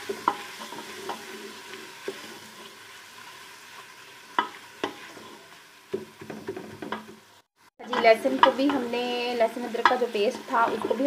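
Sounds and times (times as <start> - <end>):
spoon stirring and scraping: 0.0 - 2.9, 4.3 - 7.2, 7.8 - 11.0
onions sizzling in hot fat: 0.0 - 11.0.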